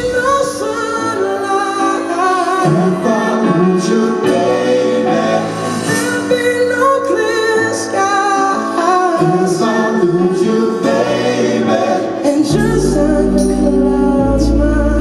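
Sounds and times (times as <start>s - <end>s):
live band backing: 0.0s - 15.0s
person singing pop ballad: 0.0s - 15.0s.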